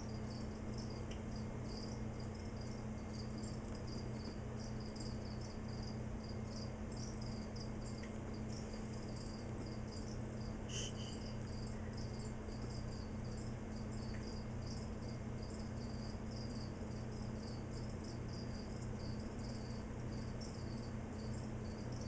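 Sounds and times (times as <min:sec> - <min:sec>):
crickets chirping: 0:00.0 - 0:22.0
low electrical hum: 0:00.0 - 0:22.0.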